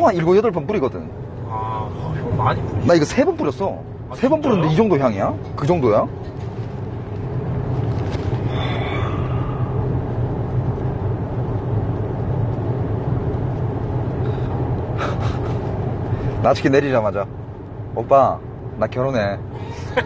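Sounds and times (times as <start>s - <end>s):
moving vehicle rumble: 0.0s - 20.0s.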